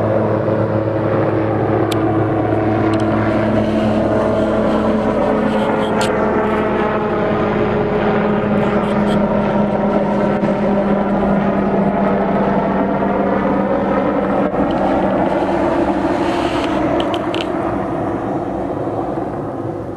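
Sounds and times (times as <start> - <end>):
helicopter rotor and turbine: 0.0 - 19.9.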